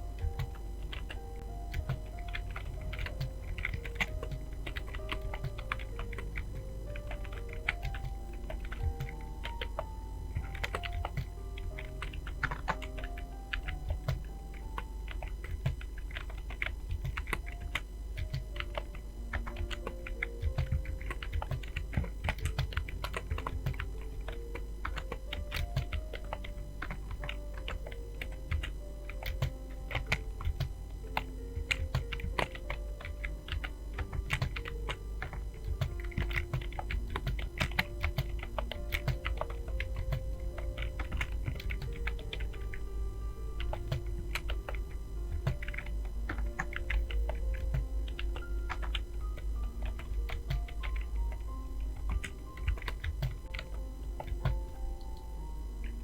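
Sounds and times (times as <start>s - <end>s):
background music stepping melody: 0.0s - 56.0s
fast typing on keyboard: 0.0s - 56.0s.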